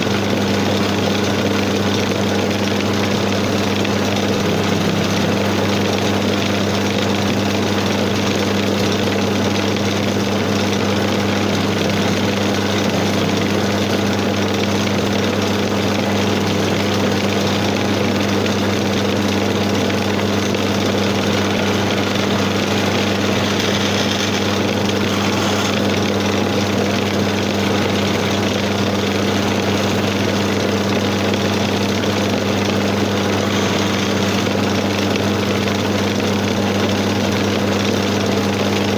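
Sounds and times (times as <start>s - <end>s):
chisel cutting spinning wood: 0.0s - 38.9s
lathe motor humming: 0.0s - 38.9s.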